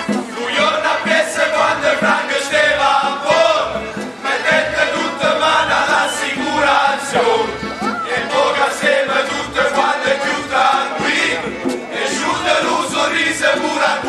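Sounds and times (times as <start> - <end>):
instruments playing along: 0.0 - 14.0
men singing in chorus: 0.1 - 14.0.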